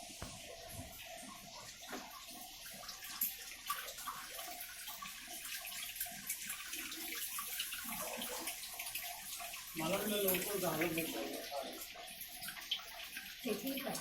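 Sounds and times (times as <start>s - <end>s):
water splashing into washing machine: 0.0s - 14.0s.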